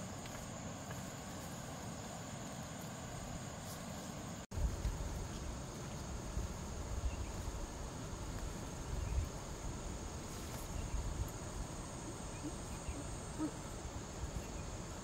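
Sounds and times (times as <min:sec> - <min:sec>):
insects calling: 0:00.0 - 0:15.0.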